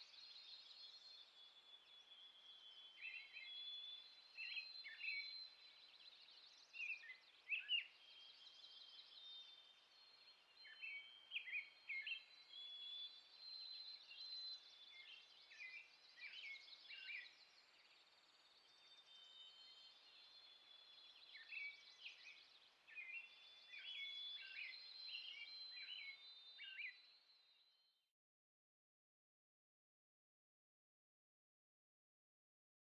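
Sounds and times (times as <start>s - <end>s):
ambient outdoor hiss: 0.0s - 27.6s
small birds chirping: 0.0s - 27.9s.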